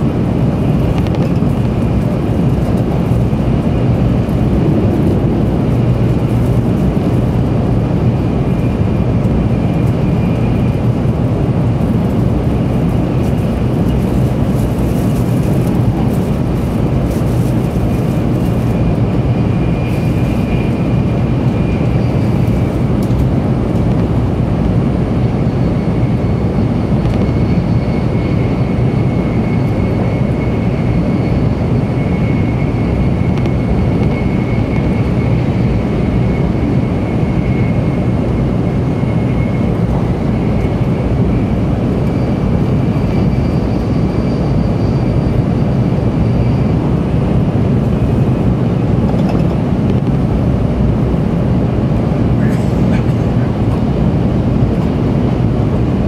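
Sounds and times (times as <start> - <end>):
faint high whine: 0.0 - 52.6
high-speed train rumbling: 0.0 - 56.0.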